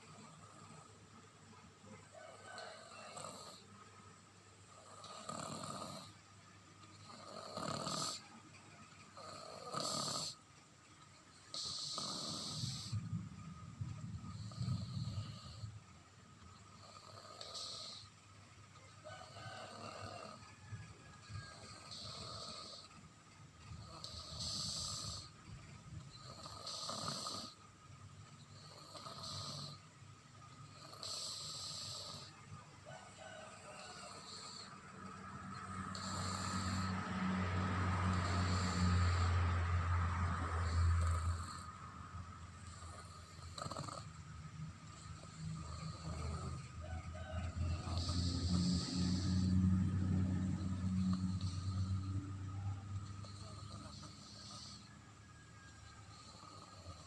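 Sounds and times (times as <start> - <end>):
toddler snoring: 0.0 - 1.2, 1.9 - 3.8, 4.6 - 6.2, 6.8 - 10.5, 11.3 - 57.0.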